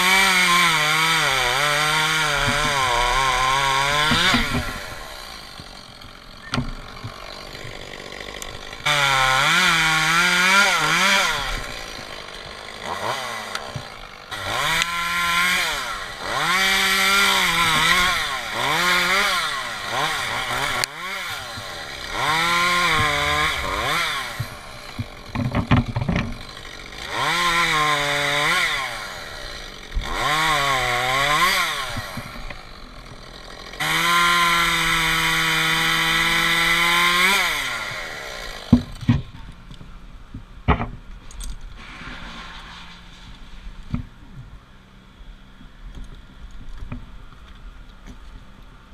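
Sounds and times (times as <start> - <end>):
chainsaw cutting wood: 0.0 - 44.7.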